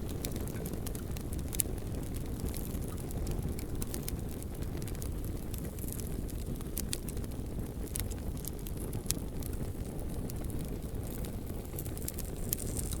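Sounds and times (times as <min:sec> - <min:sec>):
burning wood crackling: 0:00.0 - 0:13.0
low rumble of flame: 0:00.0 - 0:13.0.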